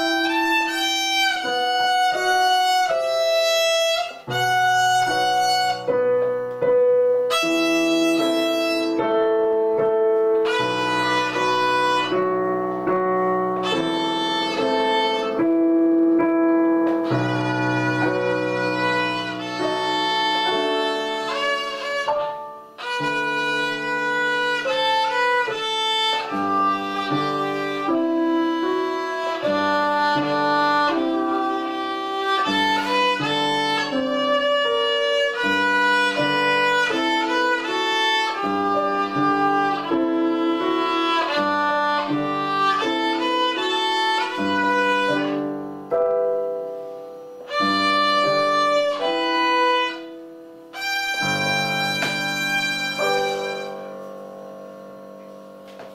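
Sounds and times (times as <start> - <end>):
violin playing lively melody: 0.0 - 45.6, 47.3 - 54.0.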